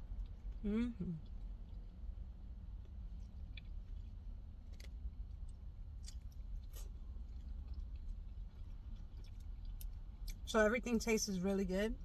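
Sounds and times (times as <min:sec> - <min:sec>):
steady low hum: 0:00.0 - 0:12.0
person chewing food: 0:00.1 - 0:10.5.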